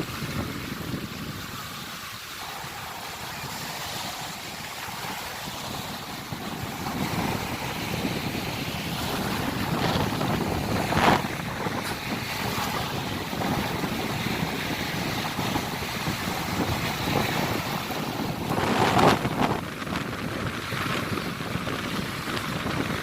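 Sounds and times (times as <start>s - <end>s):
sea waves washing in: 0.0s - 23.0s
wind buffeting the microphone: 0.0s - 23.0s.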